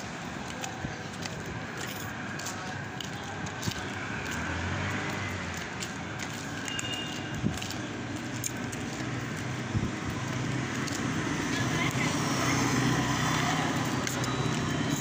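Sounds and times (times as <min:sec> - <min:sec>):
traffic and street noise: 0:00.0 - 0:15.0.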